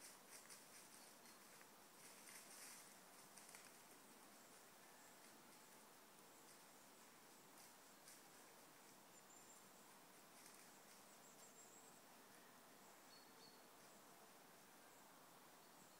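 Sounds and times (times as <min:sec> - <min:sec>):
faint woodland background: 0:00.0 - 0:15.9.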